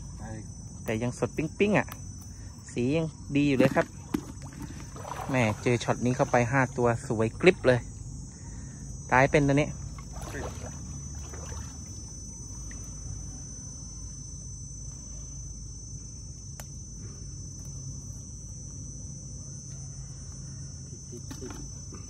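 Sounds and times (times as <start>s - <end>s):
high-pitched insect chorus: 0.0s - 22.0s
low steady hum: 0.0s - 22.0s.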